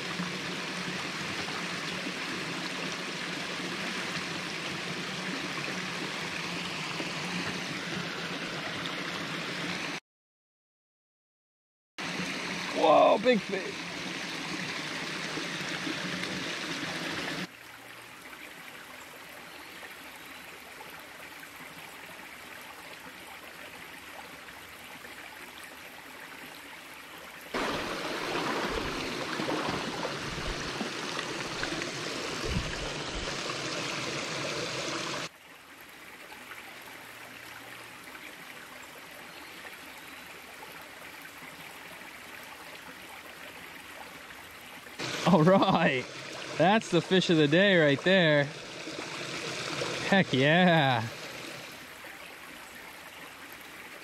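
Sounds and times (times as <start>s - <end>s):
stream splashing over rocks: 0.0s - 10.0s, 12.0s - 54.0s.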